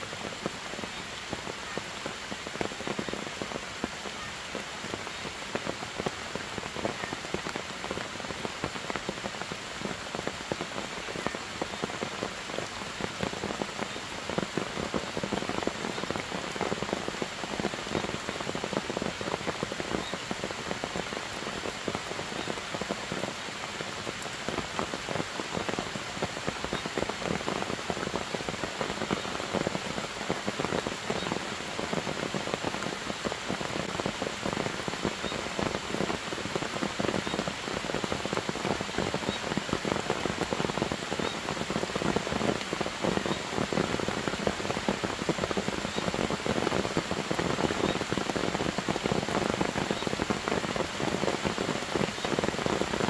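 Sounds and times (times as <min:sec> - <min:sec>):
rain on foliage: 0:00.0 - 0:53.0.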